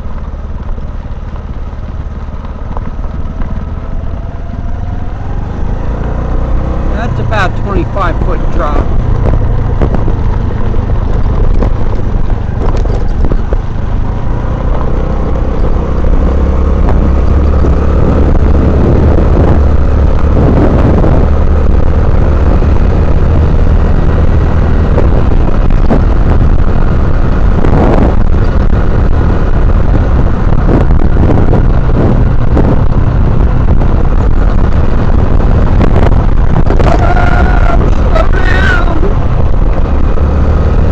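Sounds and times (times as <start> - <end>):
small motorbike engine droning: 0.0 - 40.9.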